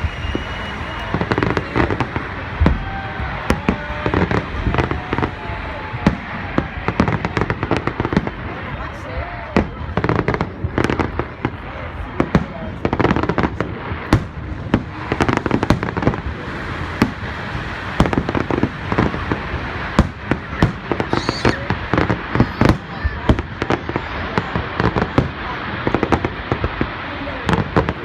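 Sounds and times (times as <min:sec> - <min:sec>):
fireworks bangs and cracks: 0:00.0 - 0:28.0.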